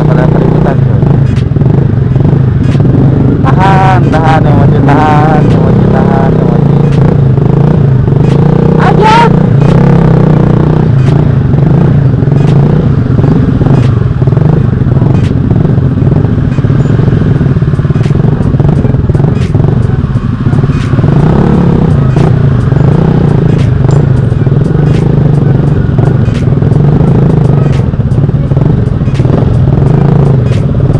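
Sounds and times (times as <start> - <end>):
motorcycle engine running: 0.0 - 30.9
sharp ticks: 0.1 - 30.9.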